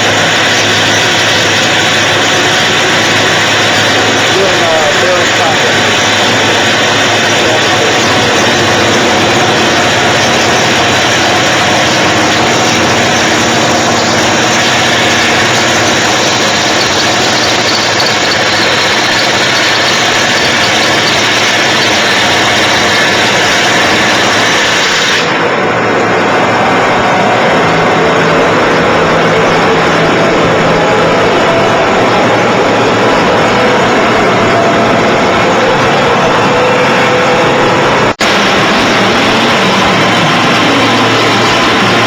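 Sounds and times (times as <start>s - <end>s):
boring machine running: 0.0s - 42.0s.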